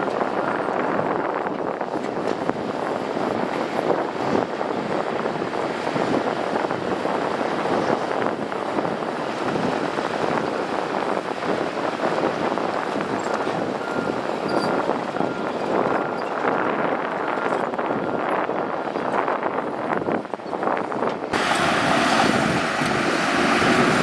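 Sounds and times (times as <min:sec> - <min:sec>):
bulldozer engine and machinery: 0:00.0 - 0:24.0.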